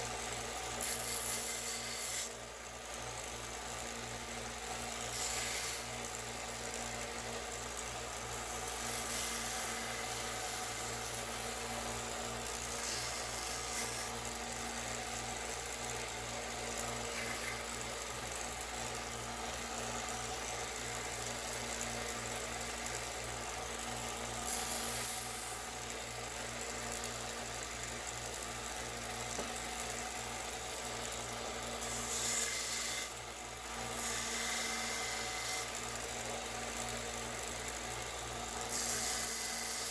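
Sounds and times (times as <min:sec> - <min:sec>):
belt sander motor hum: 0:00.0 - 0:39.9.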